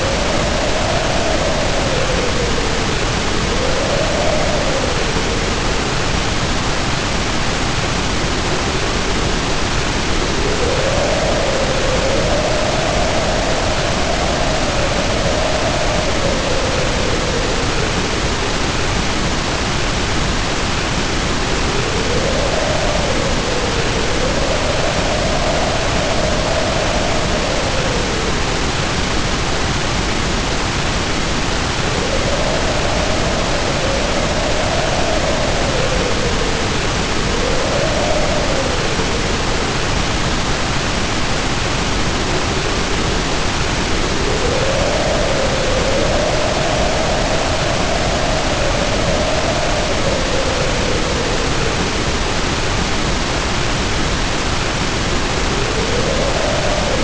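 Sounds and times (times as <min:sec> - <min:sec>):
heavy rain pouring: 0:00.0 - 0:57.0
wind howling: 0:00.0 - 0:57.0.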